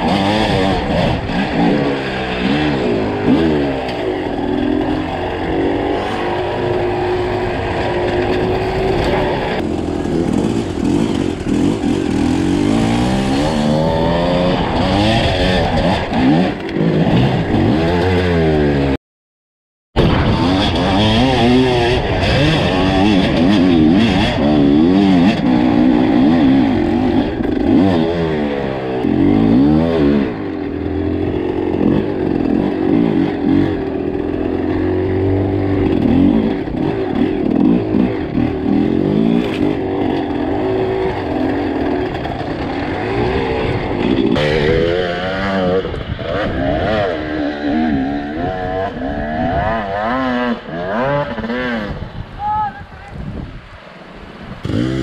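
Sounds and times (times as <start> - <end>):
dirt bike engine revving: 0.0 - 19.0, 20.0 - 52.4, 54.2 - 55.0.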